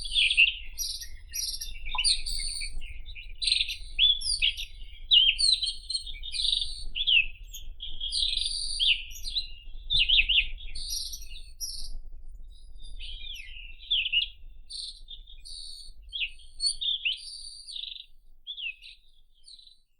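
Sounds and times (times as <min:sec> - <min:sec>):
robin singing whistled notes: 0:00.0 - 0:19.9.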